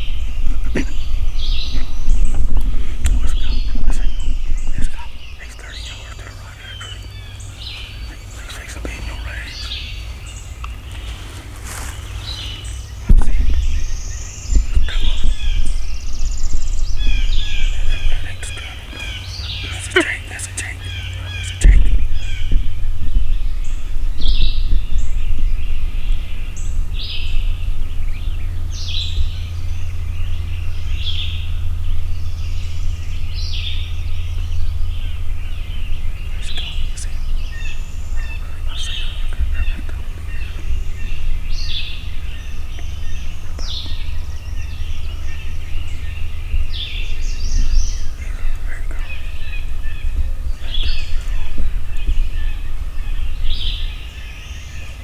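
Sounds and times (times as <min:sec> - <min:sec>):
loud low rumble: 0:00.0 - 0:55.0
songbird singing high phrases: 0:00.0 - 0:55.0.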